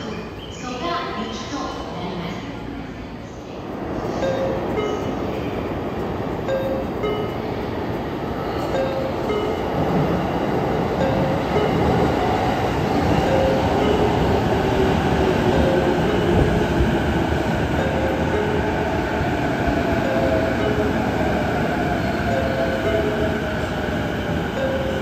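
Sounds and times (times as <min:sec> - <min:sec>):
train wheels rumbling: 0:03.8 - 0:25.0.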